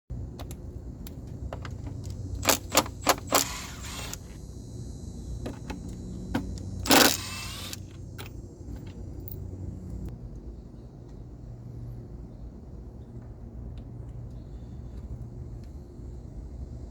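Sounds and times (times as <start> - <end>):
low steady hum: 0.1 - 16.9.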